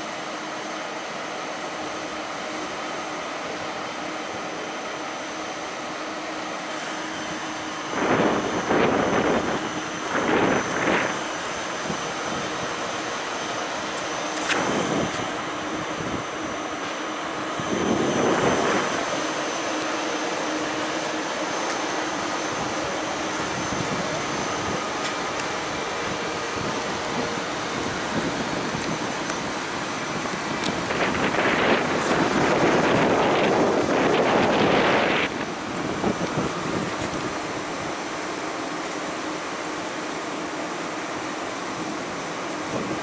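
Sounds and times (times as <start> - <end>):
electric train whine and rushing: 0.0 - 43.0.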